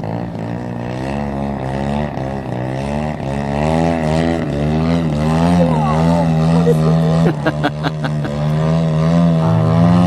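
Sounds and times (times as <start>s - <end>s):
propeller plane engine: 0.0s - 10.0s.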